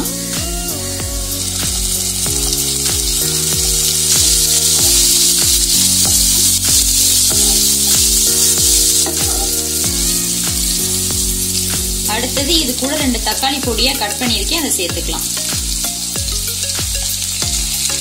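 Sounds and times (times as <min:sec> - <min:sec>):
background music with slow beat: 0:00.0 - 0:18.0
onions sizzling in hot oil: 0:00.0 - 0:18.0
wooden spatula stirring in pan: 0:01.8 - 0:18.0.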